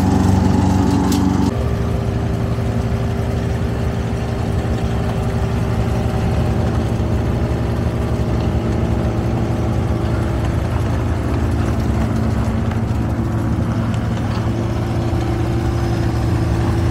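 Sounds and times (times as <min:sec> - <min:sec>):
wood chipper diesel engine running: 0:00.0 - 0:16.9.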